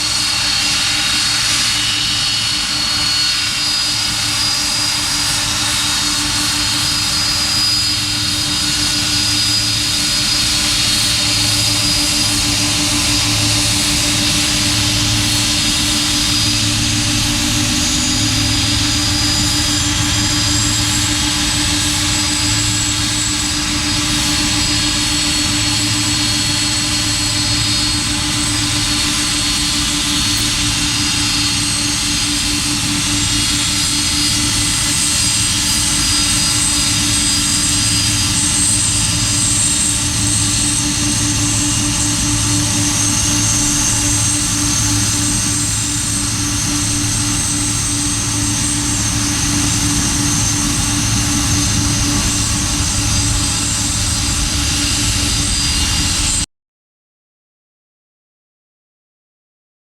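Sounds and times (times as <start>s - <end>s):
jet engines running: 0.0s - 56.5s.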